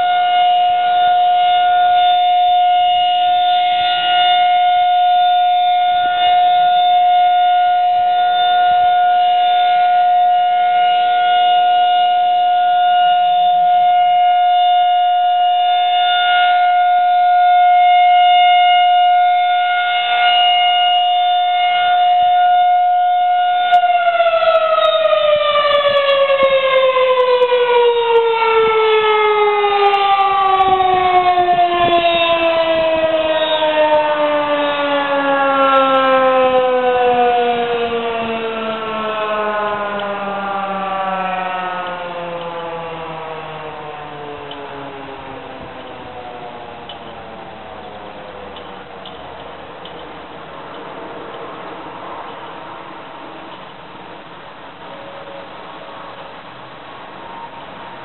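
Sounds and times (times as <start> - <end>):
rotating siren wailing: 0.0 - 50.8, 51.5 - 58.0.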